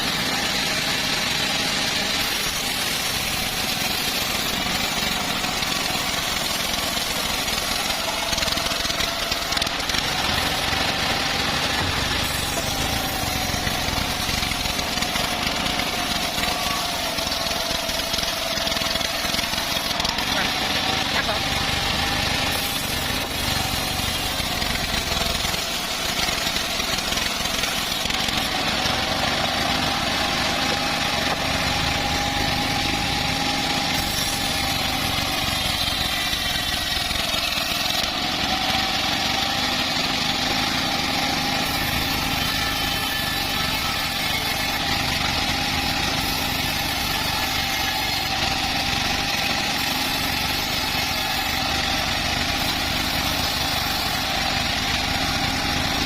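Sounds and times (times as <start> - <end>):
bandsaw mill engine drone: 0.0 - 56.0
faint saw whine: 0.0 - 56.0.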